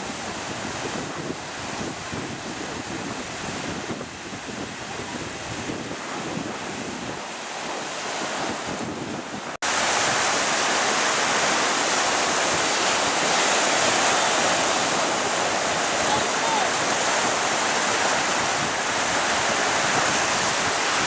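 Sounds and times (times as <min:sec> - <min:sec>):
ocean surf washing in: 0:00.0 - 0:21.0
wind buffeting microphone: 0:00.0 - 0:21.0.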